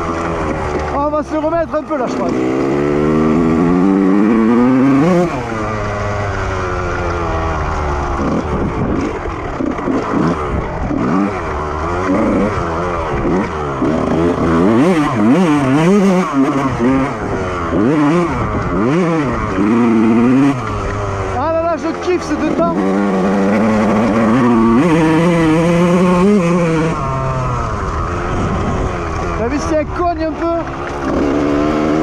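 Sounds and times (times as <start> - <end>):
motocross engine revving: 0.0 - 32.0.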